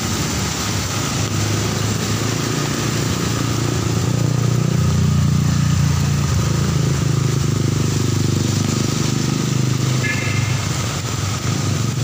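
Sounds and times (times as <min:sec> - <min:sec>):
heavy rain on wet road: 0:00.0 - 0:12.0
vehicle engine humming: 0:00.0 - 0:12.0.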